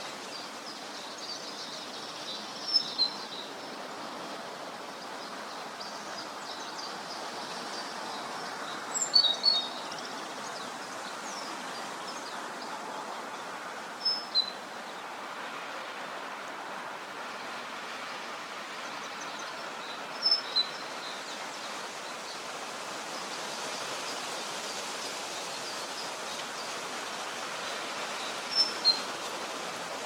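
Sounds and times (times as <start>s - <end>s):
songbirds chirping: 0.0s - 30.0s
steady outdoor hiss: 0.0s - 30.0s.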